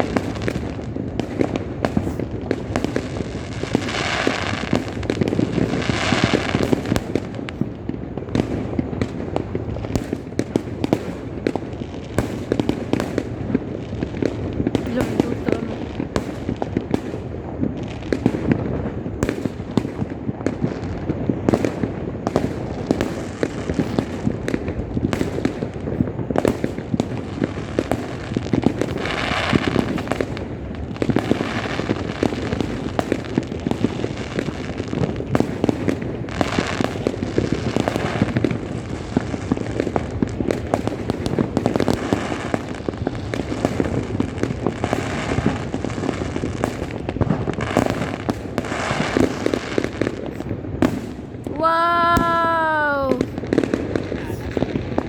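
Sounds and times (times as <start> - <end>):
fireworks and firecrackers banging: 0.0 - 55.0.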